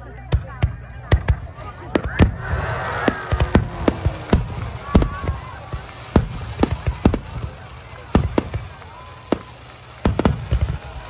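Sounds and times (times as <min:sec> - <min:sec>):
firework shells bursting: 0:02.0 - 0:11.0.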